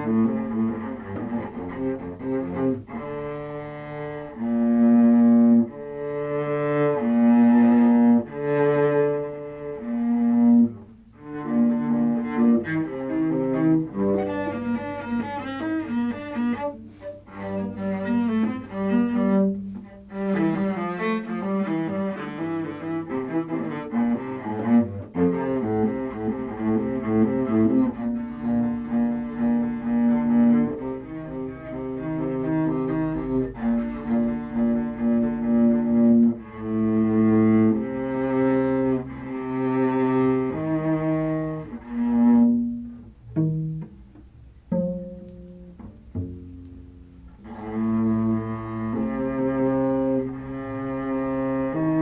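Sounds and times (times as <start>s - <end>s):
bowed cello: 0.0s - 52.0s.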